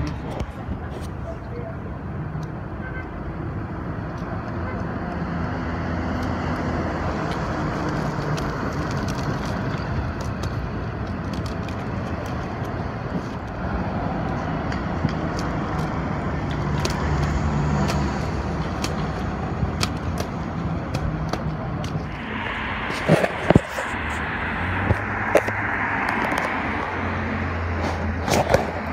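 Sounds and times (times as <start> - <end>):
buses and cars passing: 0.0 - 28.9.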